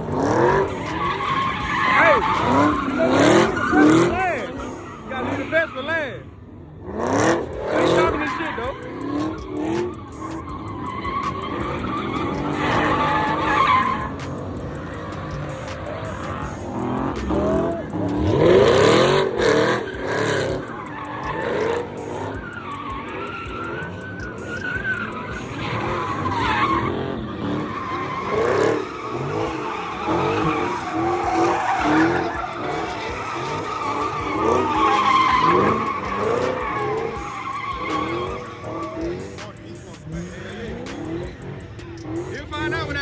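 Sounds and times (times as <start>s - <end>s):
car engines revving: 0.0s - 43.0s
car tires squealing: 0.0s - 43.0s.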